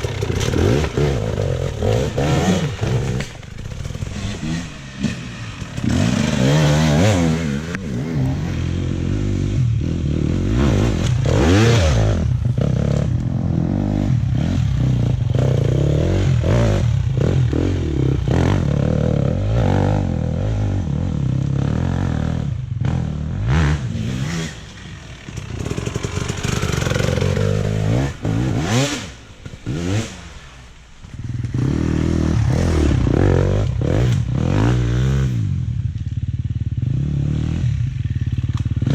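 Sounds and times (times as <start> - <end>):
dirt bike engine revving: 0.0 - 35.7.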